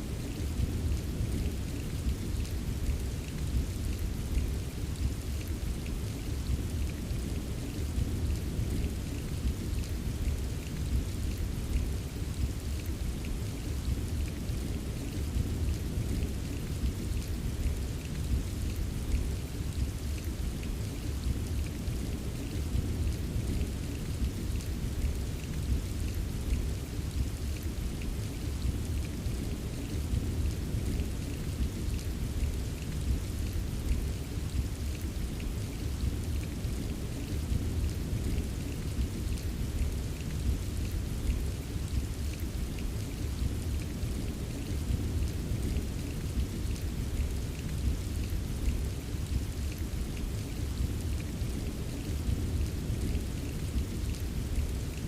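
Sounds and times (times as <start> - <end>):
rain drops ticking: 0.0 - 55.0.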